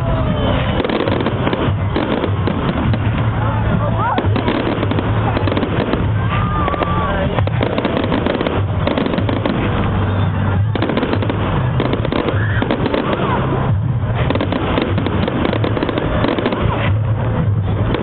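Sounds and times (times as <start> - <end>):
firework whistles: 0.0 - 18.0
fireworks bangs and crackling: 0.0 - 18.0.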